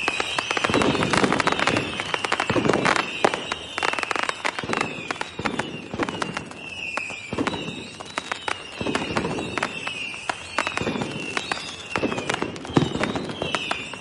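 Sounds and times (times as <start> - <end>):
firecrackers popping and banging: 0.0 - 14.0.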